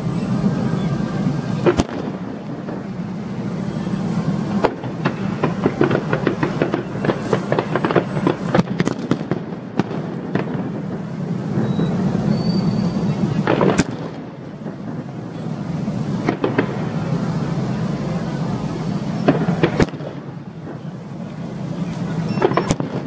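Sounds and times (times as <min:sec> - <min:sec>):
fireworks crackling pops: 0:00.0 - 0:23.0
firework bang: 0:01.2 - 0:21.0, 0:22.2 - 0:23.0.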